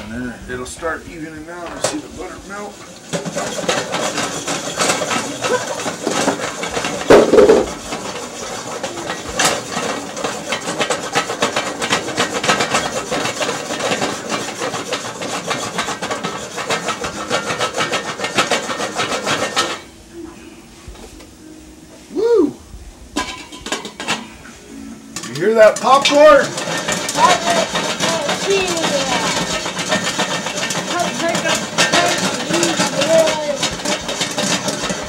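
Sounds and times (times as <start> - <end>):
pot scraping on stove grate: 0.0 - 19.9, 23.1 - 35.0
popcorn kernels rattling: 1.0 - 19.8, 25.2 - 35.0.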